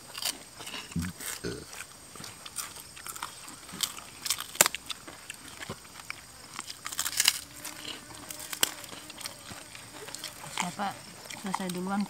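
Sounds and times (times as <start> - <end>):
crunching fried fish: 0.0 - 12.0.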